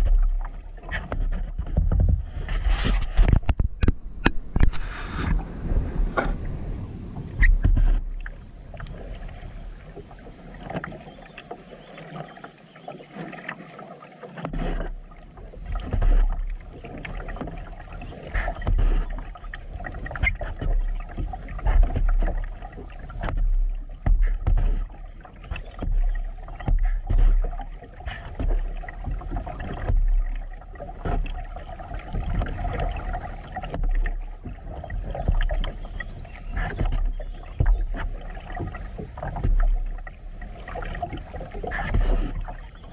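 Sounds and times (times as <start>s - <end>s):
kayak paddle strokes in water: 0.0s - 42.9s
water dripping from paddle: 7.2s - 42.9s.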